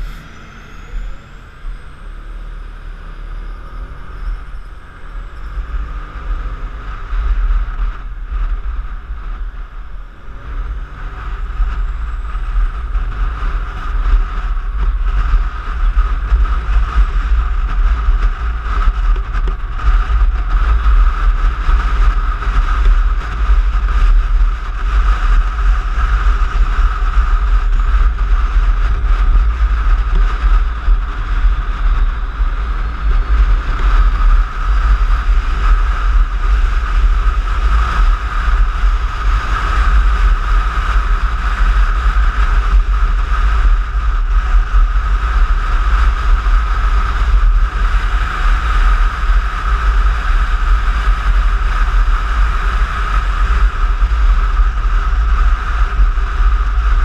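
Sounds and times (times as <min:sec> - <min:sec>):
scooter engine droning: 0:00.0 - 0:57.0
wind rumble on microphone: 0:00.0 - 0:57.0.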